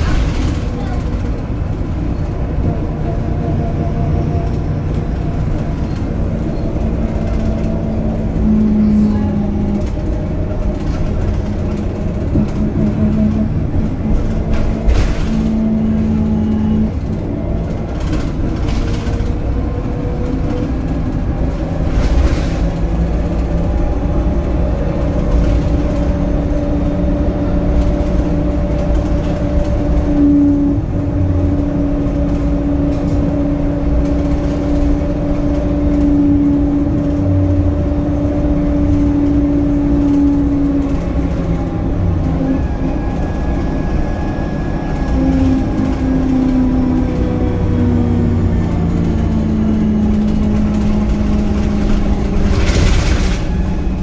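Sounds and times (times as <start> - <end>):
bus engine rumble: 0.0 - 54.0
road noise: 0.0 - 54.0.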